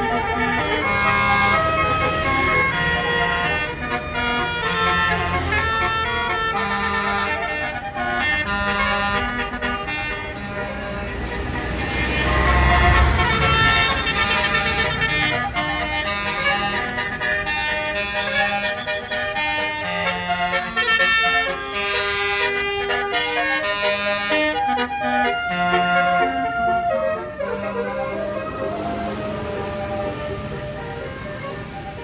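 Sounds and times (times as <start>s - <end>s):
low engine rumble: 0.0s - 32.0s
musical air horn melody: 0.0s - 32.0s.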